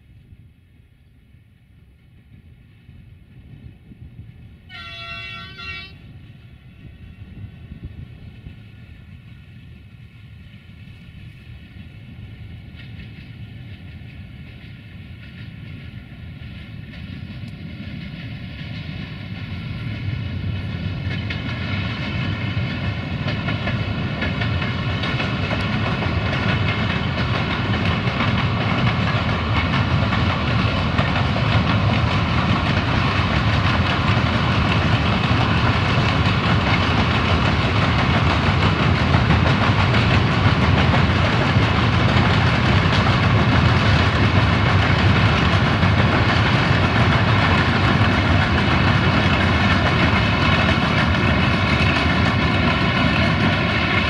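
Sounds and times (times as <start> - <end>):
freight train wheels on rails: 0.0 - 54.0
high locomotive whine: 0.0 - 54.0.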